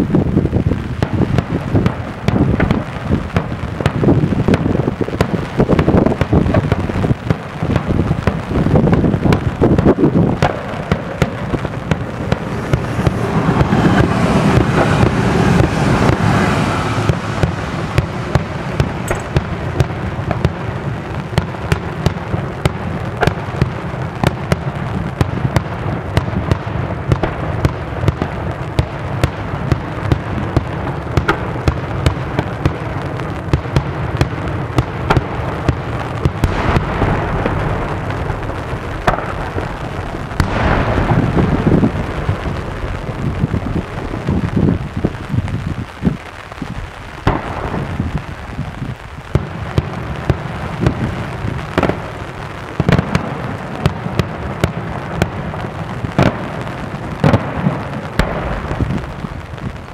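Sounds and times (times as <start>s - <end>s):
fireworks crackling roar: 0.0s - 59.9s
fireworks sharp bangs: 0.0s - 59.9s.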